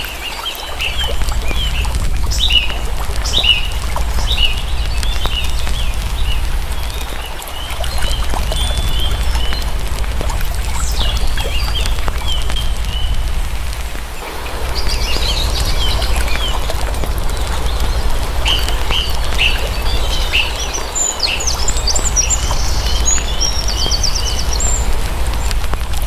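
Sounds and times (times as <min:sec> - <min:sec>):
small birds chirping: 0:00.0 - 0:26.0
steady low rumble: 0:00.6 - 0:26.0.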